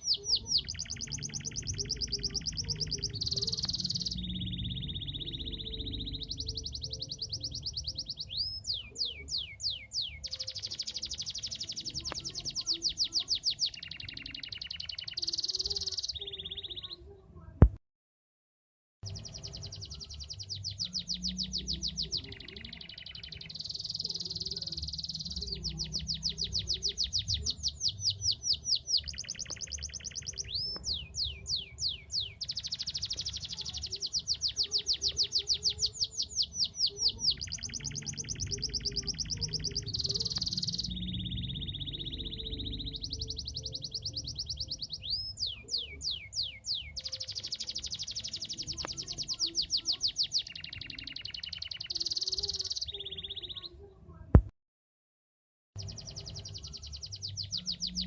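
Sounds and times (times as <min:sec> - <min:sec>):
canary singing trills: 0:00.0 - 0:17.2, 0:19.0 - 0:53.9, 0:55.8 - 0:58.0.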